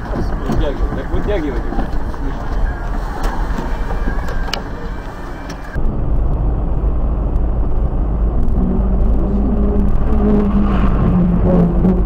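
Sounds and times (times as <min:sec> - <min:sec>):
engine and road rumble in vehicle: 0:00.0 - 0:12.0
low steady hum: 0:01.6 - 0:12.0.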